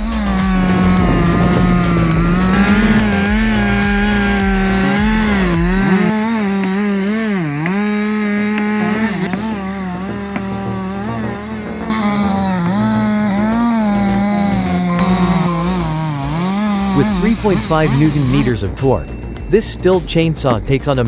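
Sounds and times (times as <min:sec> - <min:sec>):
chainsaw cutting wood: 0:00.0 - 0:19.4.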